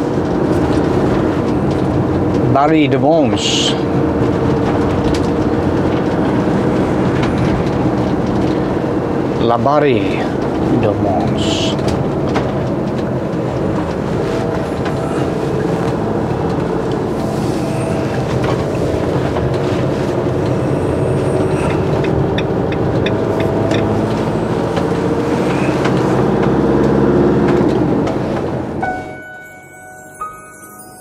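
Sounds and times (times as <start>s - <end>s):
motorhome engine drone: 0.0s - 29.3s
road noise: 0.0s - 31.0s.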